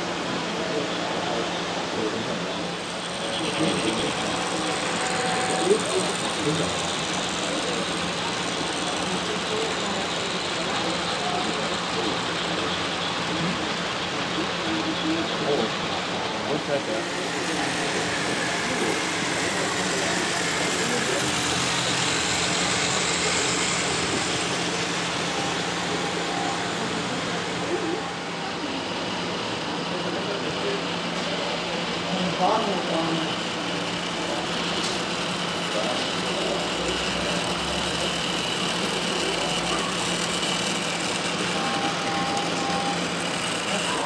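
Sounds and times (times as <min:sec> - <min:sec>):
low hall hum: 0:00.0 - 0:44.0
model trains rumbling whirr: 0:00.0 - 0:44.0.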